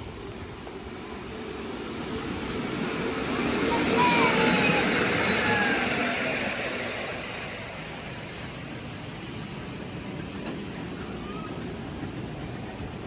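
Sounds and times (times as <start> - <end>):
miniature train rumbling hiss: 0.0 - 13.0.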